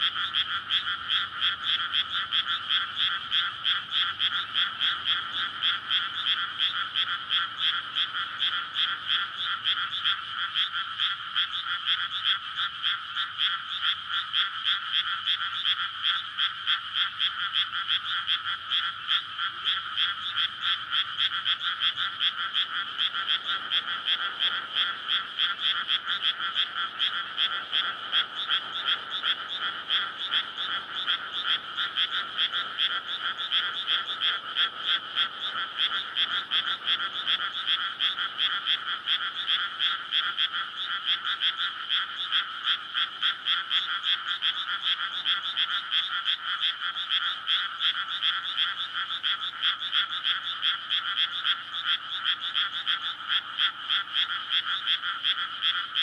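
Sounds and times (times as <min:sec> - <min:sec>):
frogs chorus calling: 0:00.0 - 0:56.0.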